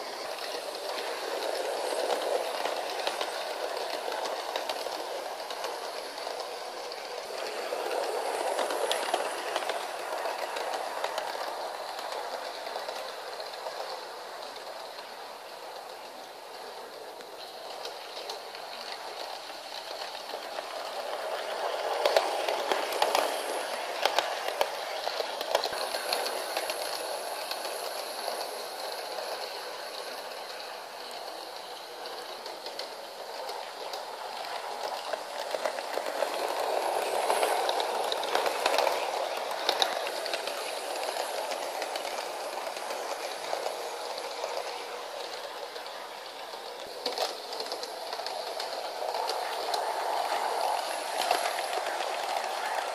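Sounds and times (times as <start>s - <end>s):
toy train wheels rumbling: 0.0s - 52.9s.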